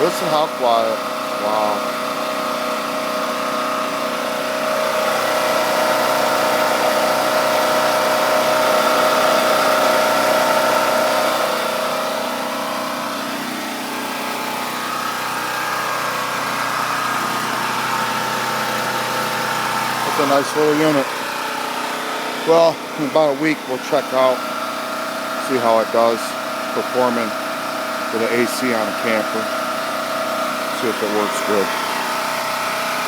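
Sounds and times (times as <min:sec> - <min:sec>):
generator engine running: 0:00.0 - 0:33.0.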